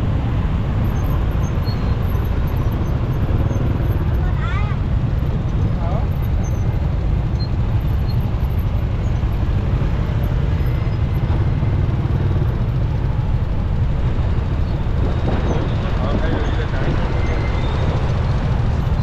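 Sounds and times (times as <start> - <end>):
motorcycle engine and road noise: 0.0 - 19.0.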